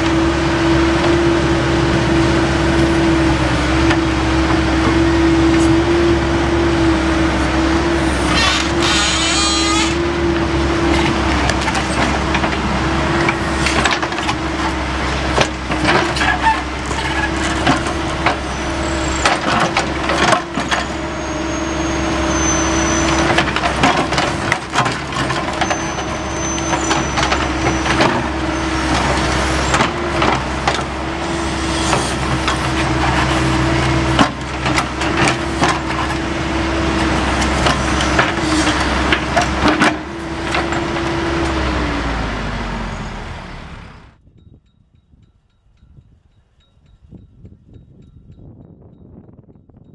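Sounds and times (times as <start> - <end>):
diesel engine running with whine: 0.0 - 44.2.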